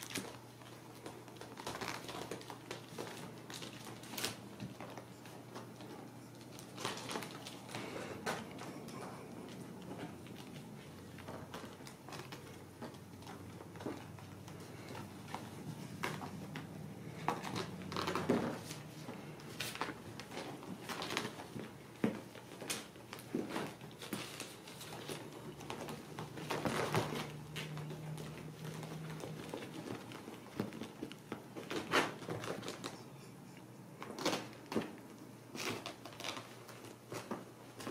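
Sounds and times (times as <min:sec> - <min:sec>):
faint low hum: 0:00.0 - 0:37.9.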